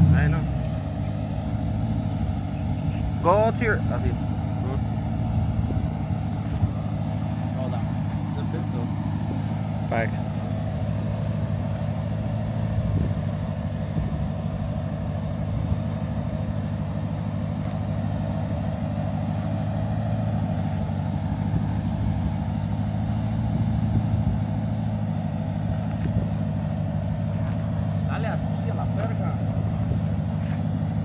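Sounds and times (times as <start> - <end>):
truck engine idling low hum: 0.0 - 31.0.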